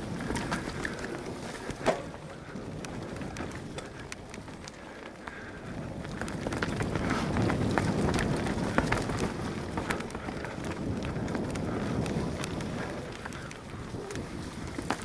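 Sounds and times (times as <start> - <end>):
bike tyres rumbling over dirt: 0.0 - 15.0
wind on microphone: 0.0 - 15.0.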